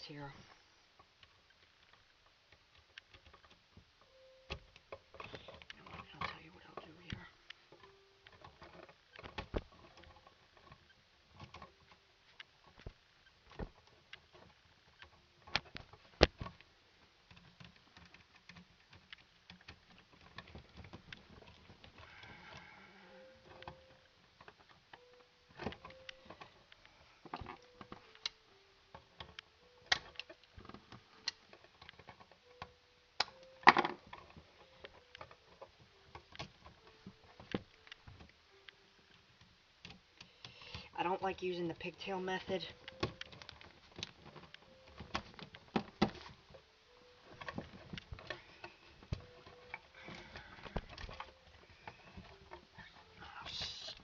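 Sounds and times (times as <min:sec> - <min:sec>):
clicks and taps of tools on wires: 0:01.1 - 0:16.7, 0:17.3 - 0:53.2.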